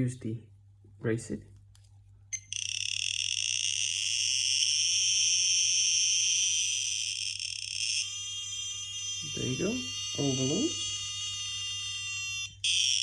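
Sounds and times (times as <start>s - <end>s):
high-pitched alarm tone: 2.4s - 13.0s.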